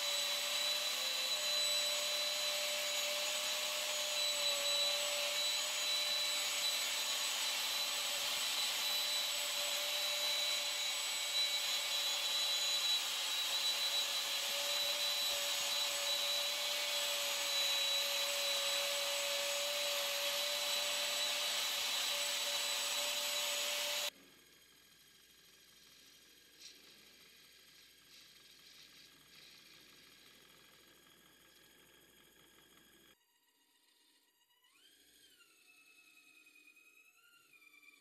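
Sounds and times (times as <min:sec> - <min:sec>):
high-speed electric motor whine: 0:00.0 - 0:33.2.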